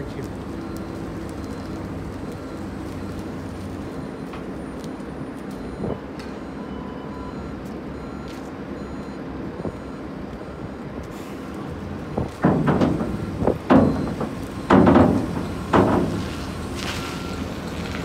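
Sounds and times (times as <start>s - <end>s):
diesel tractor running: 0.0s - 18.0s.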